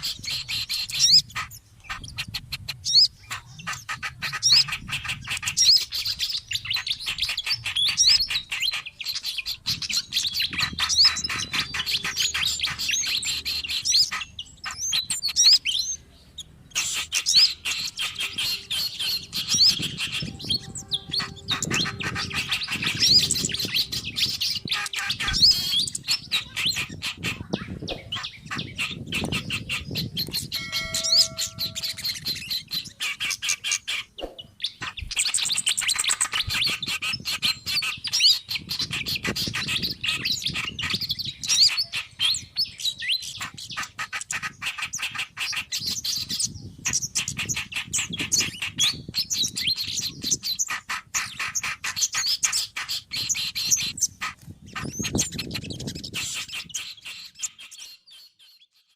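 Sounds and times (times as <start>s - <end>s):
songbirds chirping and chattering: 0.0s - 58.9s.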